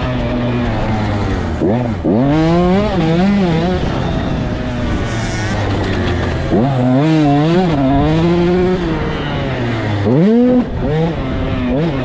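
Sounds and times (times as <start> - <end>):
dirt bike engine running: 0.0 - 12.0
dirt bike revving up: 0.0 - 12.0.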